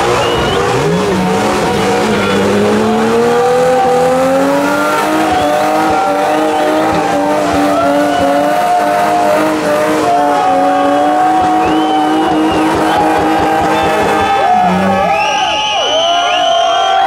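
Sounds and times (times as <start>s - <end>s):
car engine at high revs: 0.0s - 16.6s
tyres squealing: 0.0s - 17.0s.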